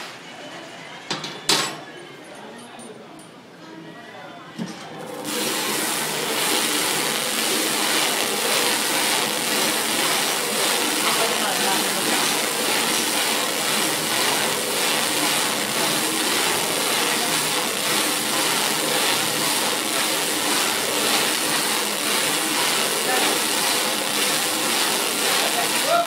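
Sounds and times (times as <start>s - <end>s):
wrapping machine running: 4.8s - 26.0s.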